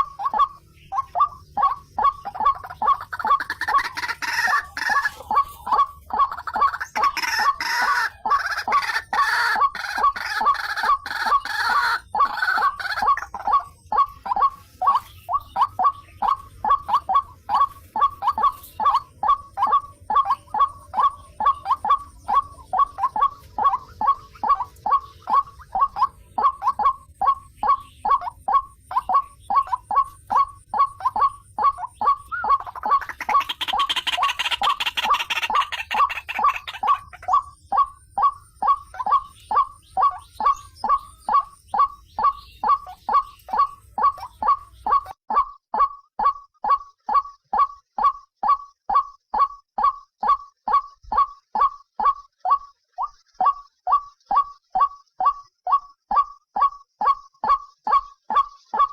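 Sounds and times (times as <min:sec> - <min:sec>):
waterhen calling harsh notes: 0:00.0 - 0:58.9.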